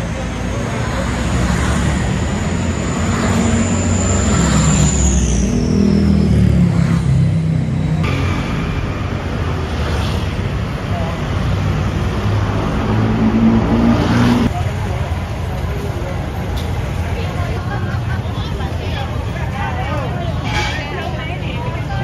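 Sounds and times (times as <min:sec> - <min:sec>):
low vehicle rumble: 0:00.0 - 0:20.3.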